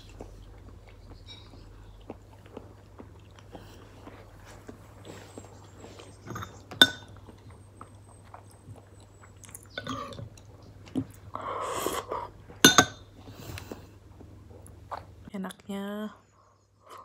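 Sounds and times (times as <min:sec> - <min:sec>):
soft chewing: 0:00.0 - 0:15.3.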